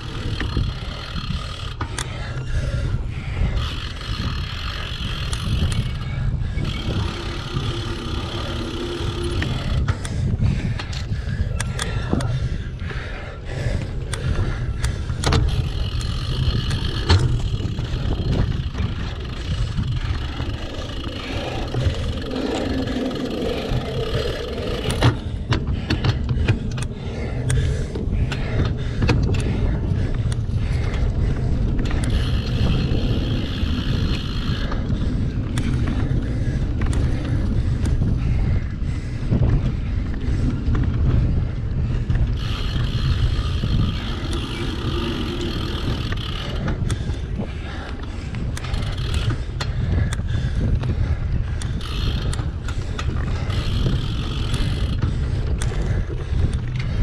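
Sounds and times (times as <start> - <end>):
bike rattling over bumps: 0.0 - 57.0
rush of bike tyres: 0.0 - 57.0
wind buffeting camera: 0.0 - 57.0.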